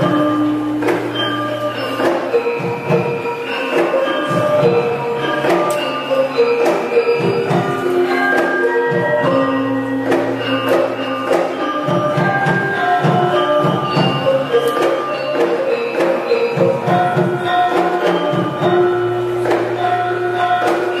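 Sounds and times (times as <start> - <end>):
processional music with drums: 0.0 - 21.0.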